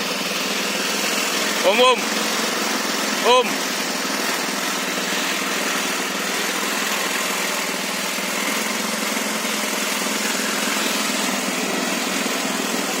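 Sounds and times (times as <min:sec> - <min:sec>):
diesel pellet mill running: 0:00.0 - 0:13.0.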